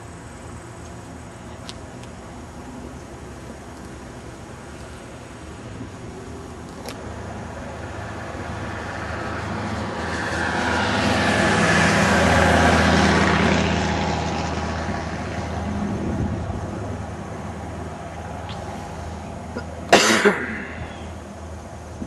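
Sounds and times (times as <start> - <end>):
passing vehicle engine: 0.0 - 22.0.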